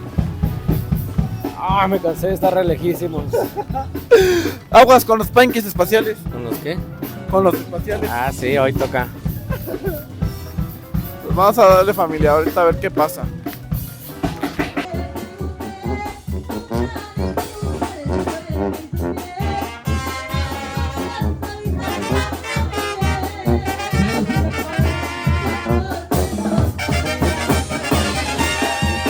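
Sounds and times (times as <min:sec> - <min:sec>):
bass and drums beat: 0:00.0 - 0:29.0
brass band music with trumpets: 0:00.0 - 0:29.0.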